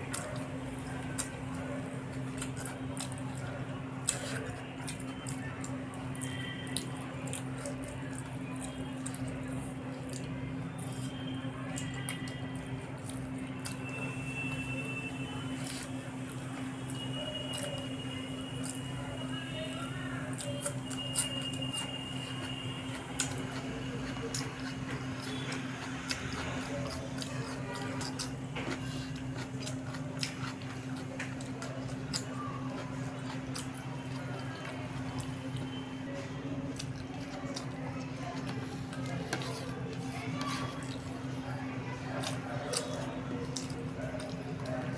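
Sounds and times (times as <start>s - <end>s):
low electrical hum: 0.0s - 44.9s
wet chewing and squishing: 0.0s - 44.9s.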